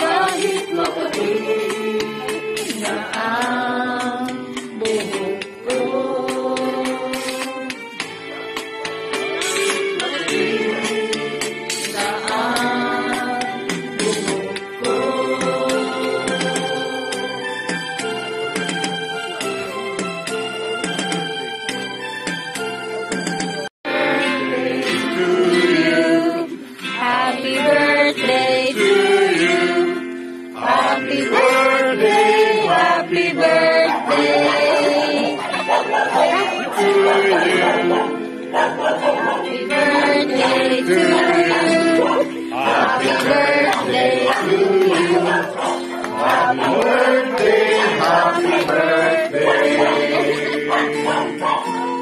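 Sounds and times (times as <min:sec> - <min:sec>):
person singing: 0:00.0 - 0:17.5, 0:23.9 - 0:52.0
musical accompaniment: 0:00.0 - 0:52.0.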